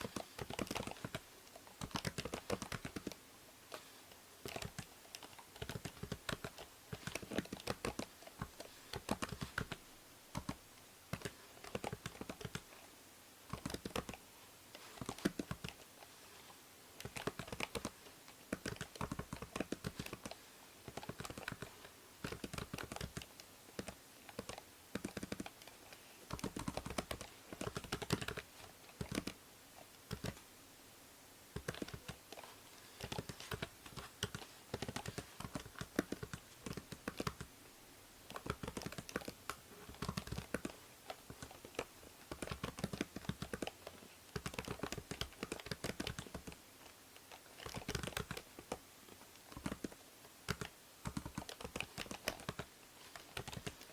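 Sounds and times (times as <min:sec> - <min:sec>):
keyboard typing: 0:00.0 - 0:03.2, 0:04.4 - 0:12.8, 0:13.5 - 0:14.2, 0:14.8 - 0:15.8, 0:17.0 - 0:29.4, 0:30.0 - 0:30.4, 0:31.6 - 0:37.5, 0:38.3 - 0:46.6, 0:47.2 - 0:48.8, 0:49.4 - 0:53.9
microphone hiss: 0:00.0 - 0:53.9.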